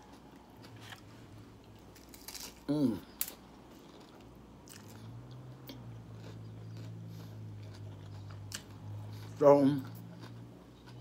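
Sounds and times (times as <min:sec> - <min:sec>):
low steady hum: 0:00.0 - 0:11.0
soft chewing crunches: 0:00.0 - 0:11.0.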